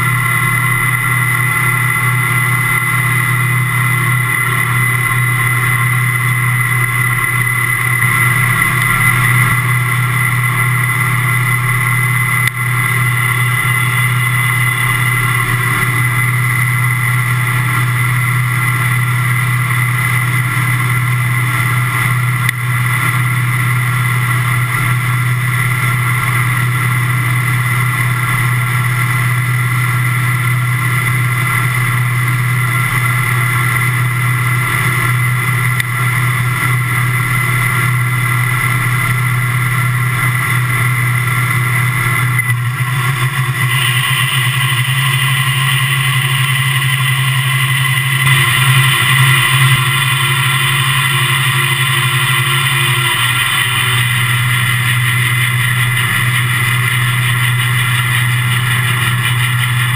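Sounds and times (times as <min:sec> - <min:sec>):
combine harvester engine drone: 0:00.0 - 0:59.9
steady high whine: 0:00.0 - 0:59.9.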